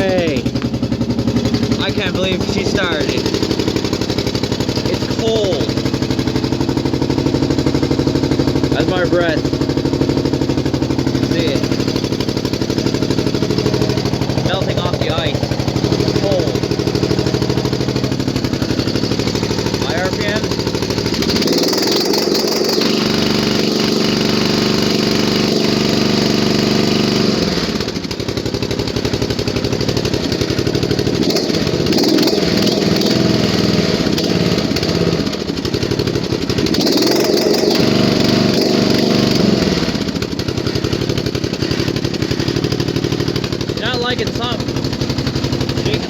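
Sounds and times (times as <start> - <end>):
mower engine revving and idling: 0.0 - 46.0.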